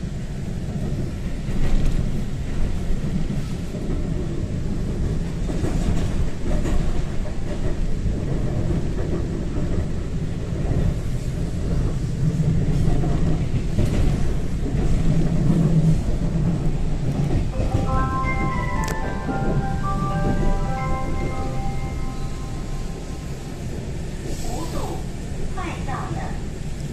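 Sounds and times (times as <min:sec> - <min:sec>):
train wheels rumbling: 0:00.0 - 0:26.9.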